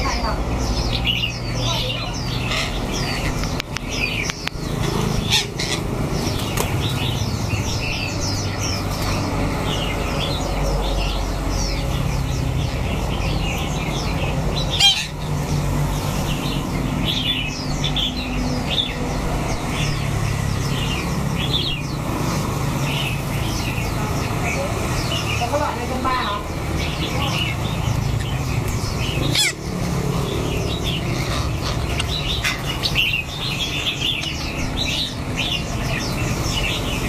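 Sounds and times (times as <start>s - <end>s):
caged birds chirping: 0.0s - 37.0s.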